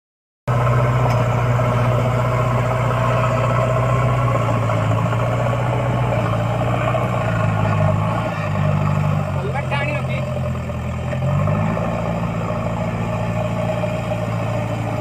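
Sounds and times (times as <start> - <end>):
diesel engine running steadily: 0.5 - 15.0.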